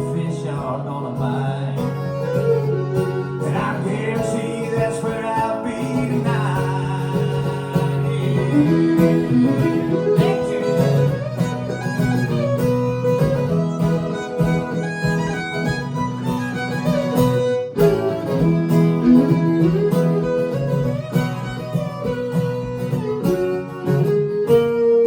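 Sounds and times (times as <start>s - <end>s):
acoustic country string instruments: 0.0s - 25.0s.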